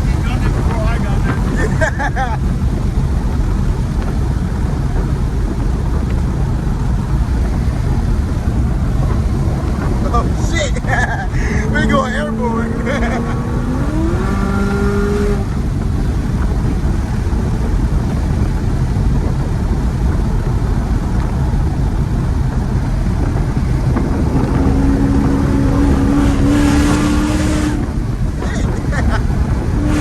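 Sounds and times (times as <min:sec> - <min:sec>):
car engine running hard: 0:00.0 - 0:30.0
road noise: 0:00.0 - 0:30.0.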